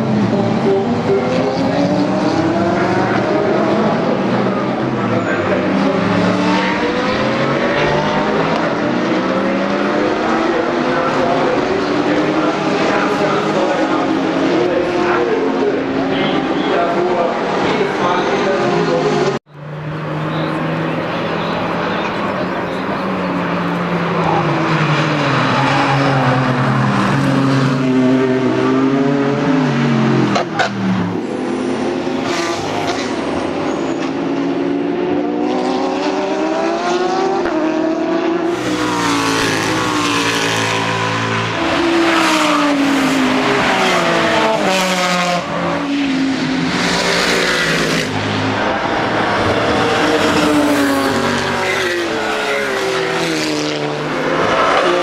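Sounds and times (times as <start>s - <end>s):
race cars driving past: 0.0s - 55.0s.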